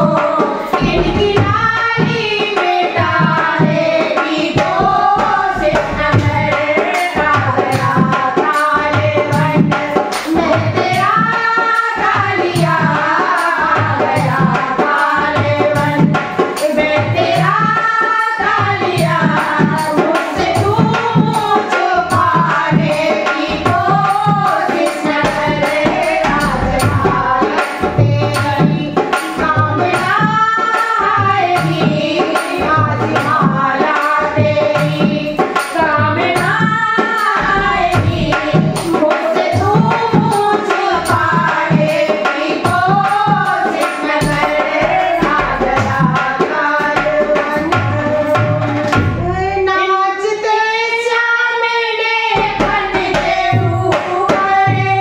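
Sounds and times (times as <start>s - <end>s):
hand drum beat: 0.0s - 49.7s, 52.3s - 55.0s
women singing in unison: 0.0s - 55.0s.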